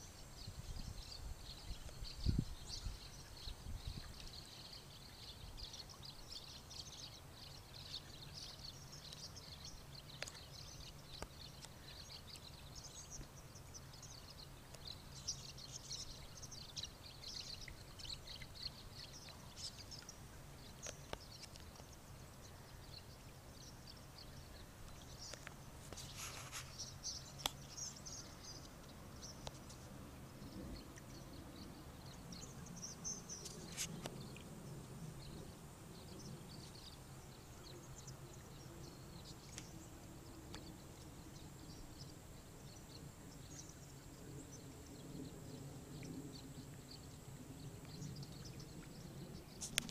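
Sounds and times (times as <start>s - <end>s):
flock of birds chirping: 0.0s - 49.9s.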